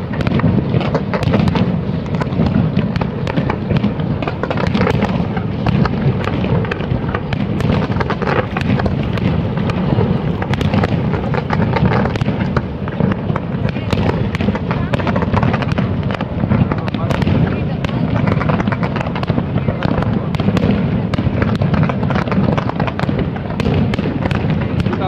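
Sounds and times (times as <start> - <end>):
firework cracks and booms: 0.0 - 25.0.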